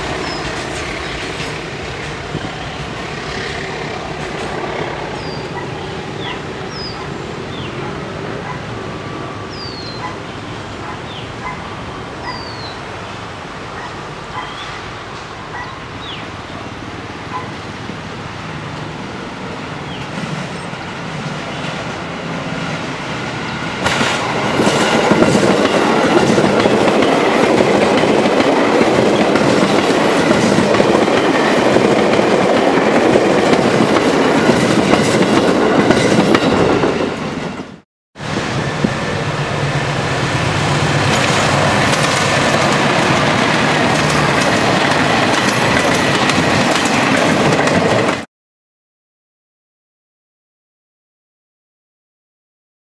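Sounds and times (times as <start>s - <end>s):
electric train passing: 0.0s - 48.3s
train wheels on rails: 0.0s - 48.3s.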